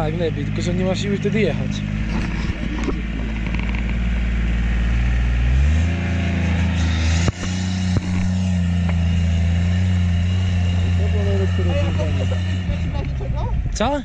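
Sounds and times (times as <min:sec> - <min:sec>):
utility vehicle engine revving: 0:00.0 - 0:13.7.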